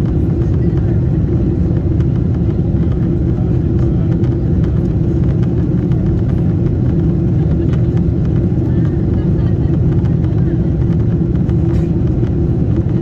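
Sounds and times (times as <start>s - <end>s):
airliner engine rumble in cabin: 0.0s - 13.0s.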